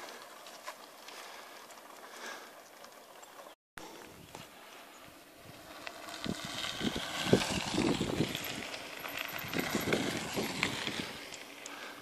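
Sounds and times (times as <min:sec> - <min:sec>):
bike tyres crunching on gravel: 0:00.0 - 0:12.0.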